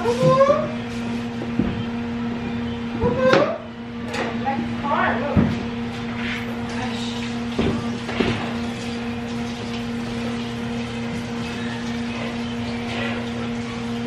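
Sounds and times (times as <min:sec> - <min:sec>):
electric hum: 0:00.0 - 0:14.0.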